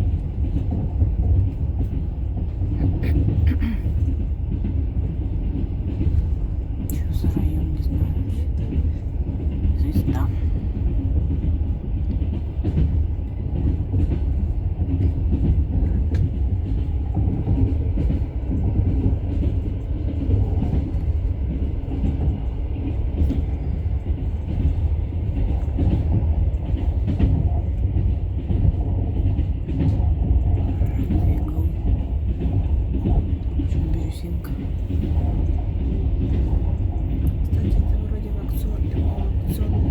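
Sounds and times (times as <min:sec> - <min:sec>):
moving vehicle rumble: 0:00.0 - 0:39.9.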